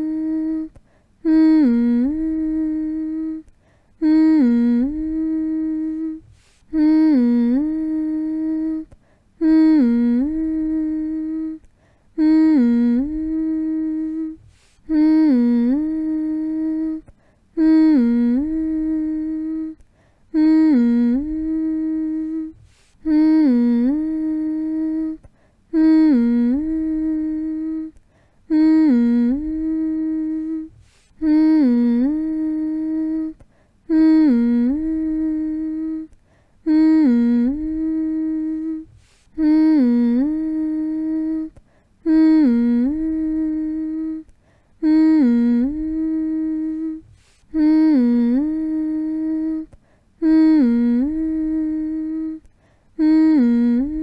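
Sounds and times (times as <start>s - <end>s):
person humming: 0.0s - 54.0s.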